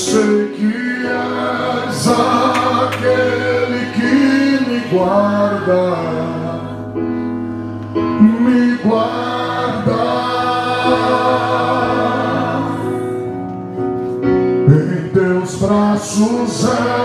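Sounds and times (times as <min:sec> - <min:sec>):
group of voices singing: 0:00.0 - 0:13.4, 0:14.7 - 0:17.0
steady musical backing: 0:00.0 - 0:17.0.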